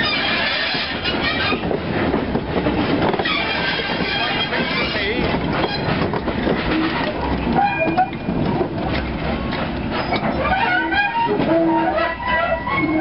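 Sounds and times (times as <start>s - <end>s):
wheels squealing: 0.0s - 1.7s, 2.8s - 13.0s
train wheels rumbling on track: 0.0s - 13.0s.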